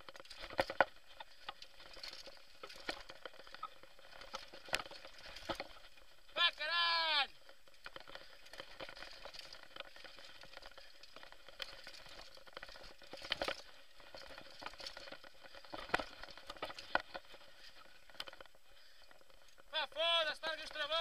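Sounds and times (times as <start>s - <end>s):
bike chain and frame rattling: 0.0s - 6.4s, 7.3s - 19.8s.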